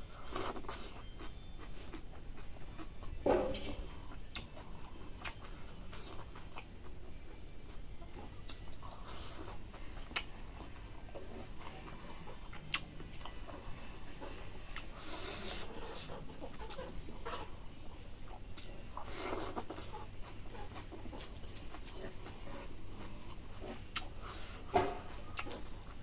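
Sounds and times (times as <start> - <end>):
man chewing with mouth smacks: 0.0 - 26.0.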